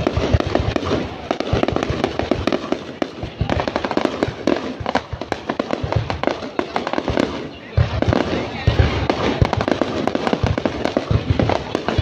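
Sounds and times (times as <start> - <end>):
firework shells launching: 0.0 - 12.0
fireworks bangs and crackles: 0.0 - 12.0.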